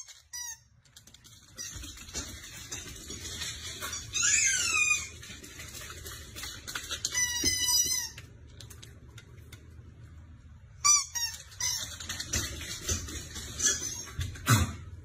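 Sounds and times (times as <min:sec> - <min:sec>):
paws clicking on wooden floor: 0:00.4 - 0:09.7, 0:11.2 - 0:14.6.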